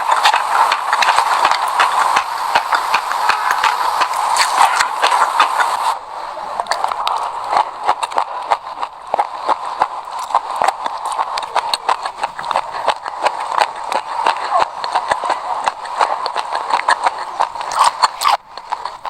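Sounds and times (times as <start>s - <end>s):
chewing crunchy seeds: 2.5s - 5.8s, 6.6s - 19.0s.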